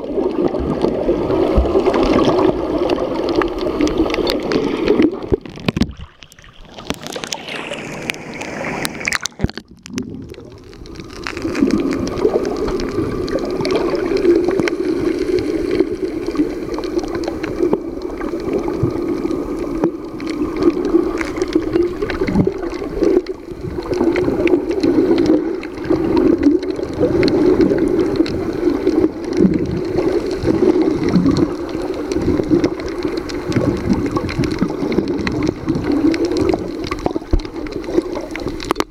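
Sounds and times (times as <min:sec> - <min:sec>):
underwater rushing hum: 0:00.0 - 0:38.9.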